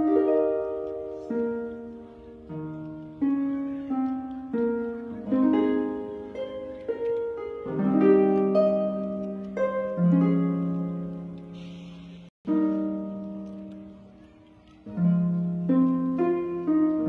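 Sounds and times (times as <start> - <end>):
harp-like plucked string music: 0.0 - 17.0.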